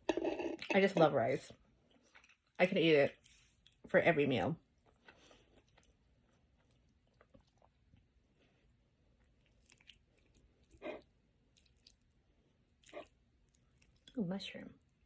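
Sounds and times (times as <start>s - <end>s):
chewing food: 1.6s - 3.9s, 4.5s - 15.0s.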